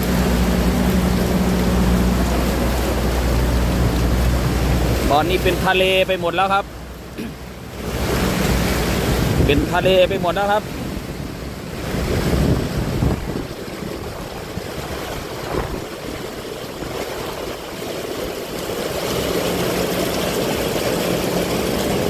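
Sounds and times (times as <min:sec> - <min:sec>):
heavy rain: 0:00.0 - 0:22.0
rushing water: 0:00.0 - 0:22.0
vehicle engine hum: 0:00.0 - 0:22.0.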